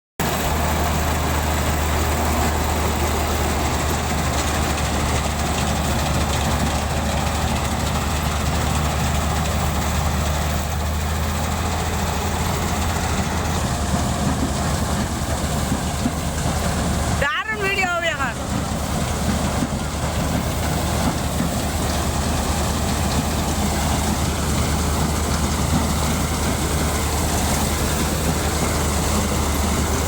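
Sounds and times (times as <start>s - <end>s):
combine harvester engine drone: 0.2s - 30.0s
machinery rushing noise: 0.2s - 30.0s.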